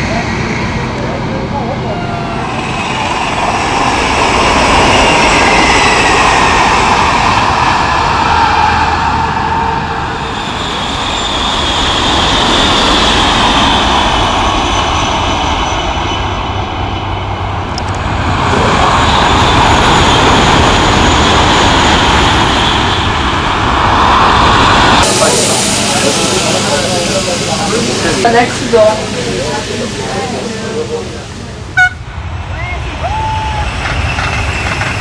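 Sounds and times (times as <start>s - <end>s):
high-speed trains passing: 0.0s - 35.0s.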